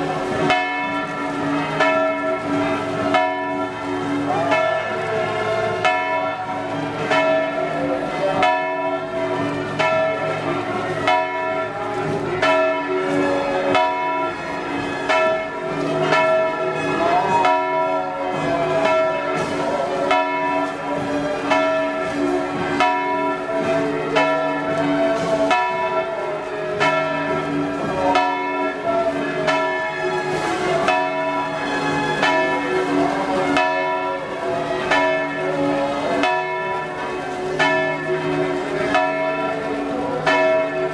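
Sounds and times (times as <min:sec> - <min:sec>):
church bells ringing a peal: 0:00.0 - 0:40.9.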